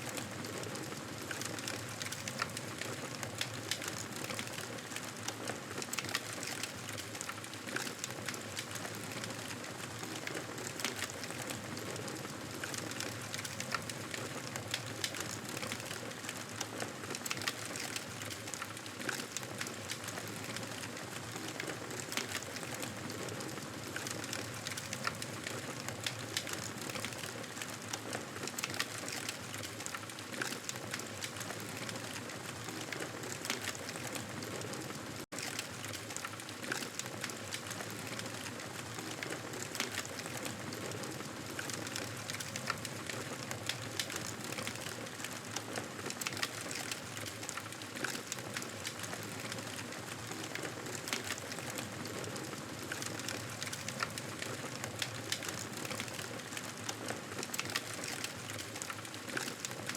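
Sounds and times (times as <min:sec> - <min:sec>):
campfire crackling: 0:00.1 - 0:59.9.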